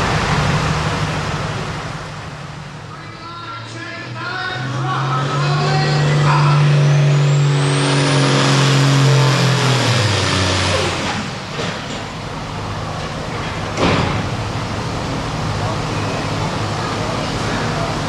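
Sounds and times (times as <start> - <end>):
diesel tractor engine with turbo whine: 0.0 - 18.0.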